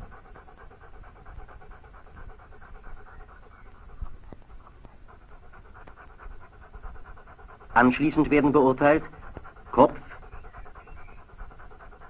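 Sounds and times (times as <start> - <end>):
dog panting rapidly: 0.0 - 12.0.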